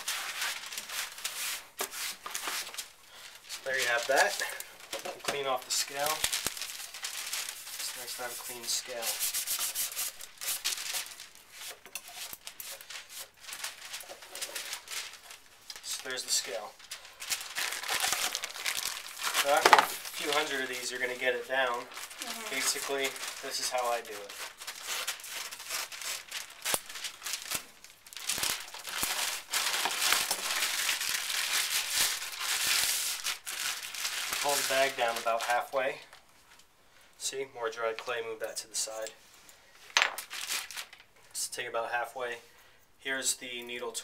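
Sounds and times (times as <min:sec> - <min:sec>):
plastic bag crinkling: 0:00.0 - 0:09.0, 0:10.1 - 0:36.2, 0:39.9 - 0:41.1.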